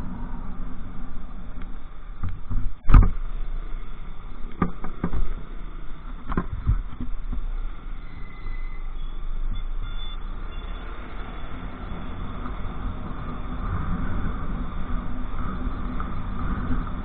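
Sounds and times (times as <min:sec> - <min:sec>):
motorcycle engine and wind rumble: 0:00.0 - 0:17.0.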